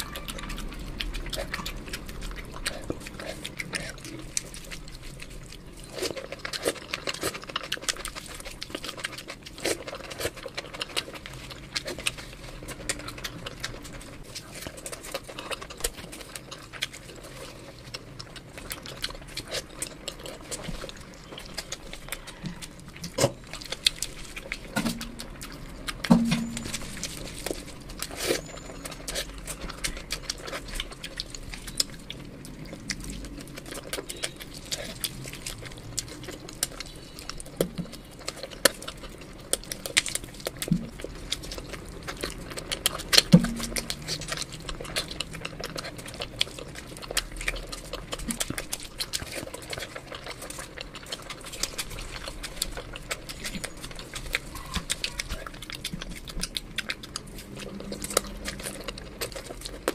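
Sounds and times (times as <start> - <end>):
fingers squishing food: 0.0 - 59.9
wet chewing and lip smacks: 0.0 - 59.9.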